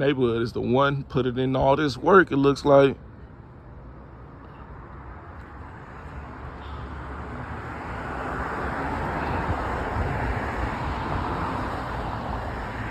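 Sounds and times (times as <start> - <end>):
vehicle rumble: 0.0 - 12.9.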